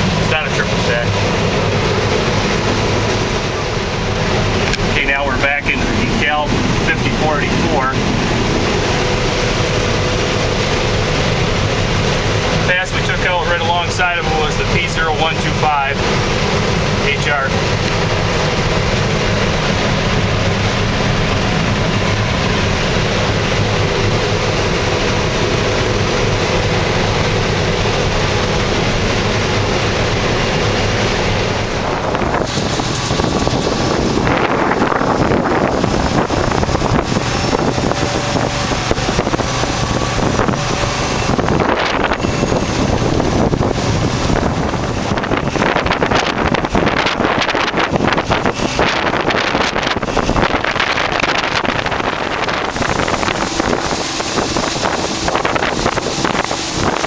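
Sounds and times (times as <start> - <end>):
combine harvester engine drone: 0.0 - 57.0
wind buffeting microphone: 0.0 - 57.0.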